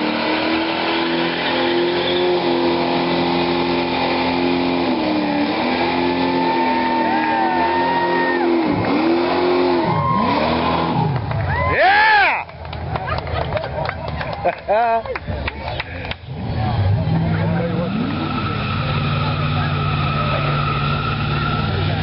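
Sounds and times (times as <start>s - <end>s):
hot rod engine revving: 0.0s - 12.1s, 15.8s - 22.0s.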